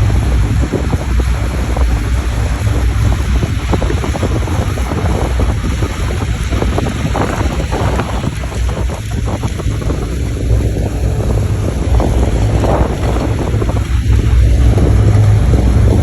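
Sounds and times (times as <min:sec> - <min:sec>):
boat engine humming: 0:00.0 - 0:16.0
sea noise: 0:00.0 - 0:16.0
wind noise on microphone: 0:00.0 - 0:16.0.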